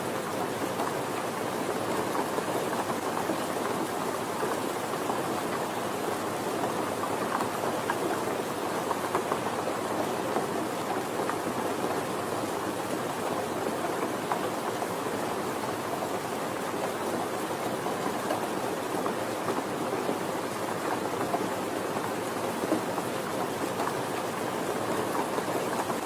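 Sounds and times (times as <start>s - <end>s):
soft rainfall: 0.0s - 26.0s.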